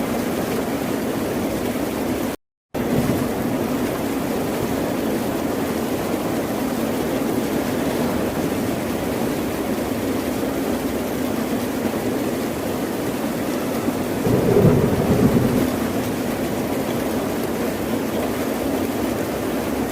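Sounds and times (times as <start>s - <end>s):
rushing water with deep rumble: 0.0s - 19.9s.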